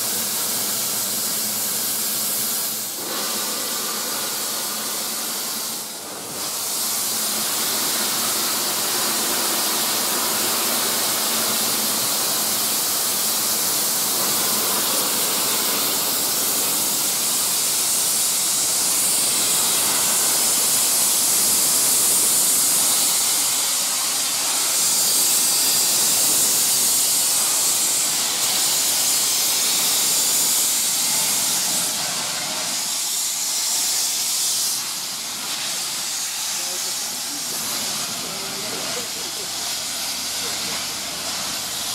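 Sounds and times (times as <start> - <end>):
steam locomotive hissing steam: 0.0 - 41.9.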